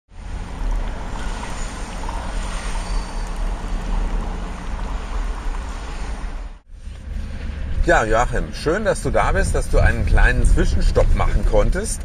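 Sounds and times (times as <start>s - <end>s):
tyre and engine rumble: 0.1s - 12.0s
wind noise: 0.2s - 12.0s.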